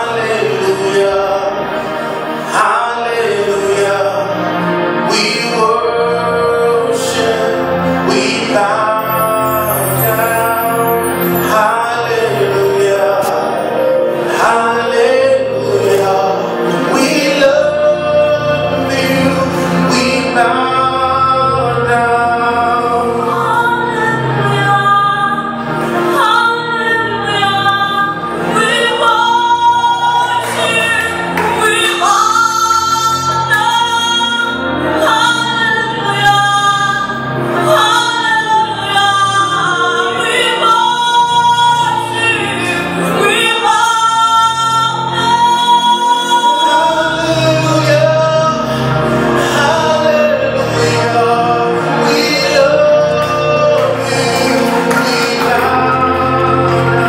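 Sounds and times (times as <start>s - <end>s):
church choir singing gospel: 0.0s - 57.0s.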